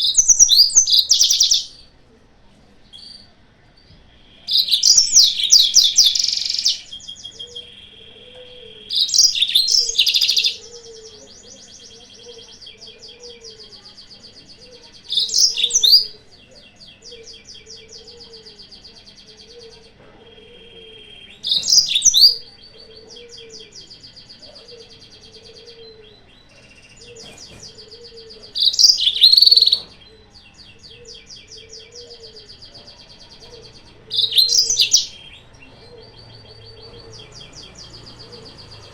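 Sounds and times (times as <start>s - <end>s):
canary singing bright phrases: 0.0s - 38.9s.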